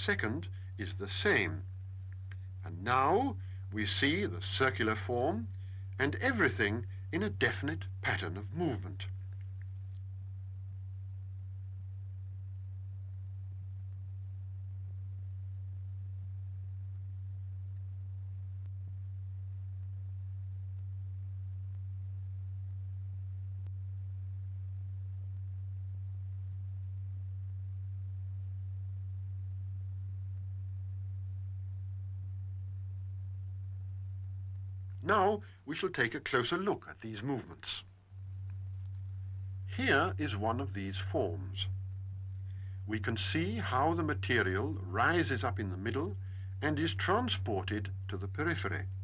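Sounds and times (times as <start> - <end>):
steady low pure tone: 0.0 - 49.0.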